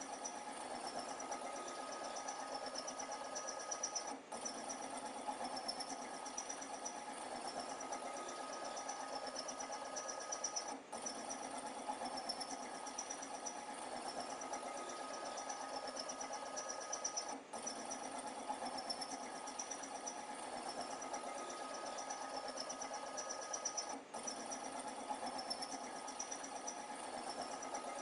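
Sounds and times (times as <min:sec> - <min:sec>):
vibratory feeder humming: 0:00.0 - 0:28.0.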